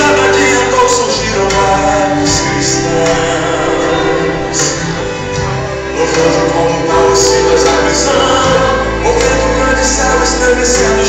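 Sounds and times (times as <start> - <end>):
gospel song with band: 0.0 - 11.0.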